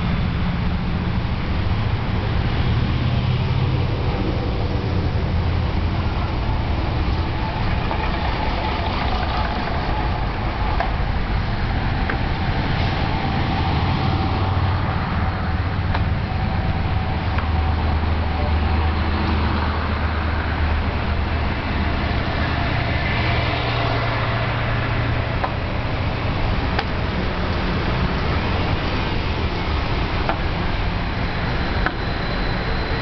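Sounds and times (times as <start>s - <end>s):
bus engine droning: 0.0s - 33.0s
road noise: 0.0s - 33.0s.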